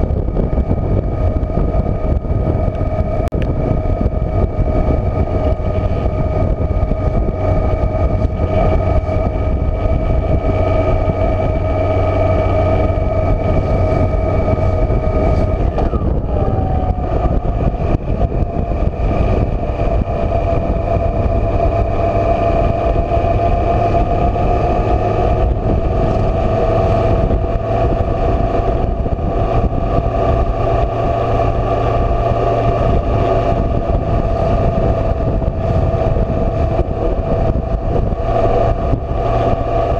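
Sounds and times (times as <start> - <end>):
motorcycle engine cruising: 0.0 - 39.9
rushing wind: 0.0 - 39.9.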